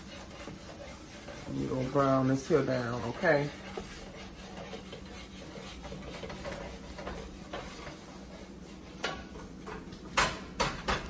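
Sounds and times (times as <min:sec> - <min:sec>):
spatula scraping a pan: 0:00.0 - 0:10.4.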